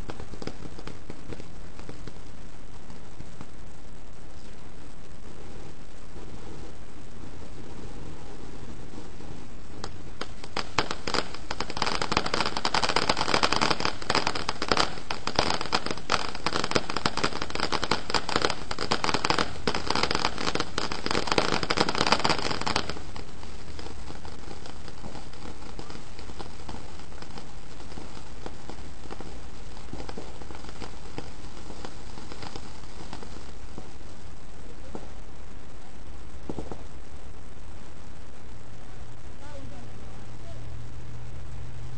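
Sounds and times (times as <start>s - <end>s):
firework crackling: 0.0s - 41.9s.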